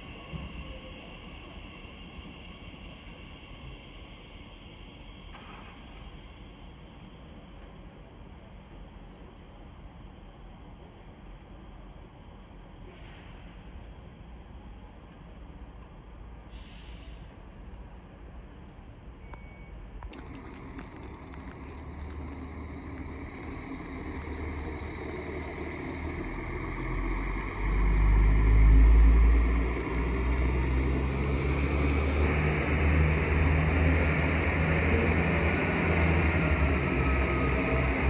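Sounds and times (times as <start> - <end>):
train passing on tracks: 0.0 - 19.2, 19.8 - 38.0.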